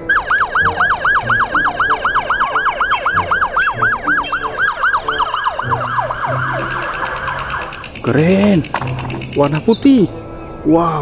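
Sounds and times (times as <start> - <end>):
police siren yelping: 0.0 - 9.7.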